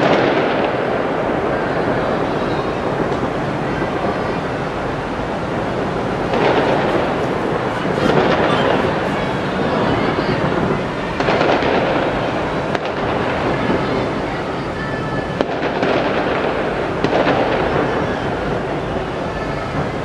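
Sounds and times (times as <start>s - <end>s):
fireworks bursts and crackles: 0.0s - 20.0s
sharp firework bangs: 0.0s - 20.0s.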